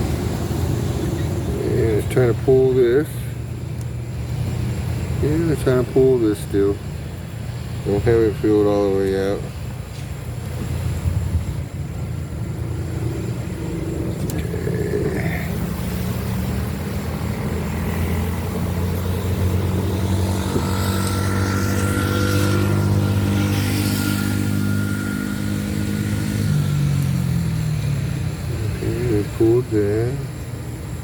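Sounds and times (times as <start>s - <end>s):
vehicle driving past: 0.0s - 30.7s.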